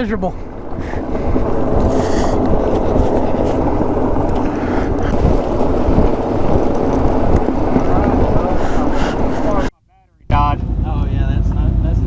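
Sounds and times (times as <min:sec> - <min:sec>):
truck engine and tyres rumbling: 0:00.0 - 0:09.7, 0:10.3 - 0:12.0
wind buffeting microphone: 0:00.0 - 0:09.7.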